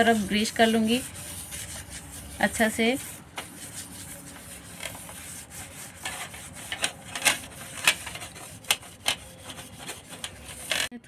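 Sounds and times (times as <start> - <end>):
sharp scrapes: 0.0 - 10.9
tissue rubbing metal tin: 0.0 - 10.9.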